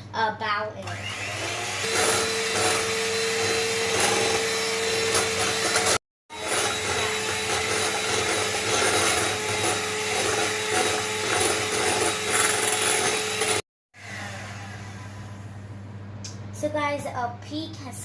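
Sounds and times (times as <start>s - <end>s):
electric mixer whipping cream: 0.8s - 15.5s.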